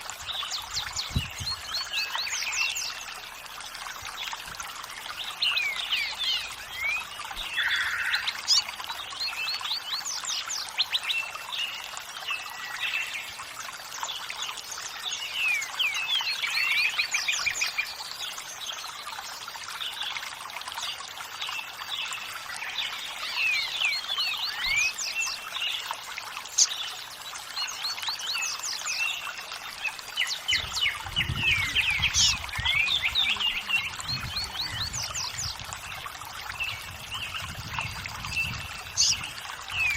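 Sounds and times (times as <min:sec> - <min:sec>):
songbirds chirping: 0:00.0 - 0:39.9
water trickling: 0:00.0 - 0:39.9.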